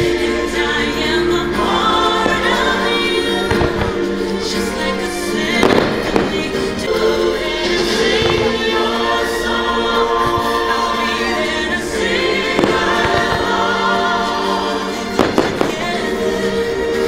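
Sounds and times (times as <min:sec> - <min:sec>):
orchestral music with choir: 0:00.0 - 0:17.0
fireworks bangs: 0:02.0 - 0:11.6, 0:12.2 - 0:16.7.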